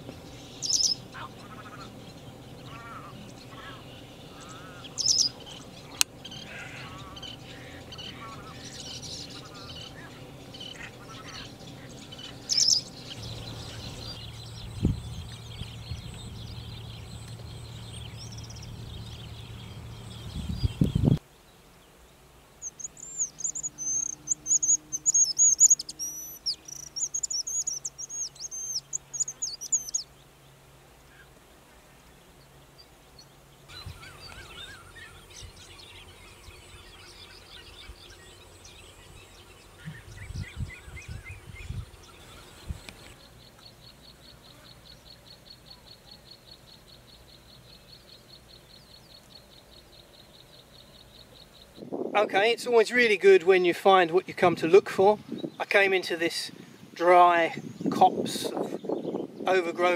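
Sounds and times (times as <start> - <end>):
faint bird calls: 0.0 - 21.6, 22.5 - 51.8
bushlark singing: 0.0 - 31.3, 32.0 - 59.9
background noise: 0.0 - 59.9.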